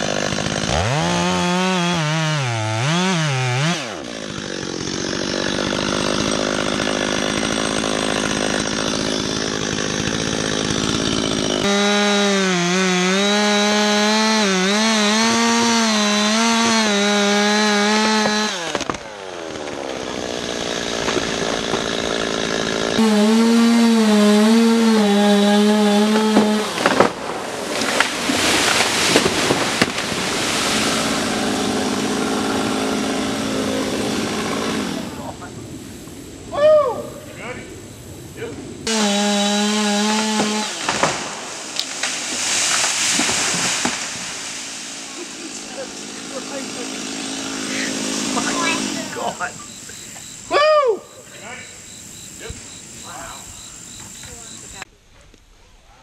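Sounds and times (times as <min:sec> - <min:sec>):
chainsaw cutting wood: 0:00.0 - 0:35.5, 0:38.8 - 0:54.9.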